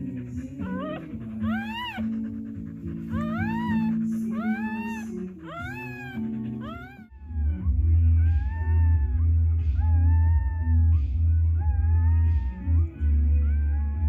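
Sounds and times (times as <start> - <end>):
background music with low notes: 0.0 - 14.0
puppy crying: 0.0 - 14.0.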